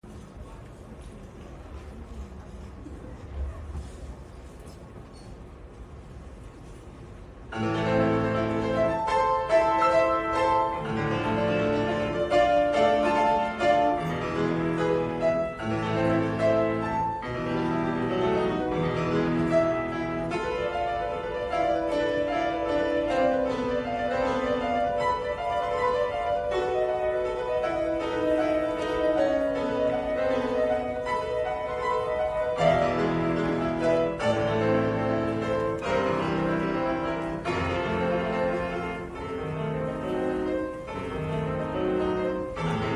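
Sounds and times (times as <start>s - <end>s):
solo piano classical piece: 7.4s - 42.9s.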